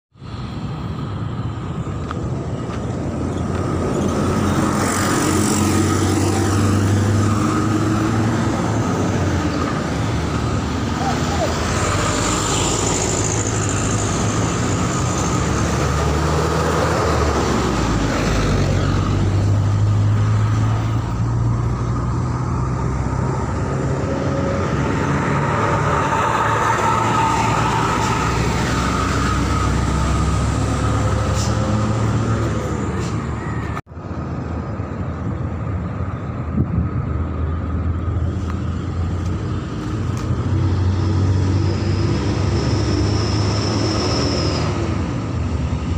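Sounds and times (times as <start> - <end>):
heavy vehicle engines running: 0.1 - 45.9
traffic noise: 0.1 - 45.9.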